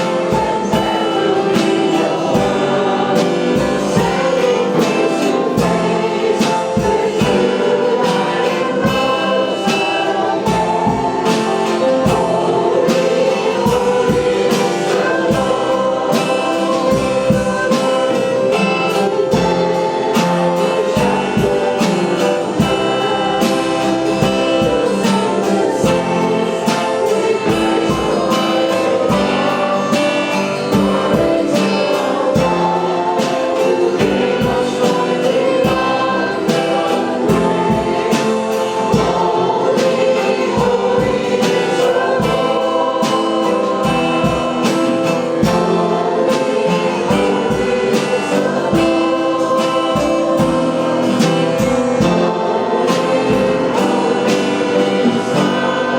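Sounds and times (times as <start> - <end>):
gospel worship music: 0.0 - 55.9.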